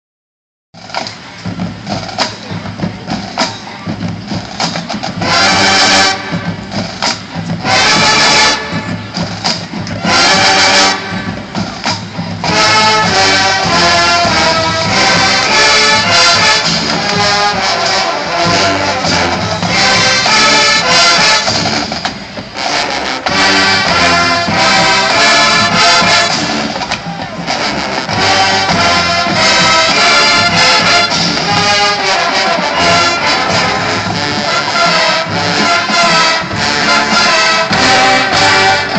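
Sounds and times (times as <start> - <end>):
brass chords: 0.8 - 38.9
drumming: 0.8 - 38.9
marching band playing: 0.8 - 38.9.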